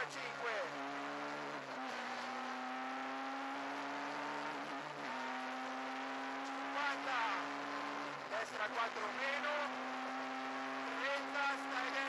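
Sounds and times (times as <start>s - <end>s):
car engine under load: 0.0s - 12.0s.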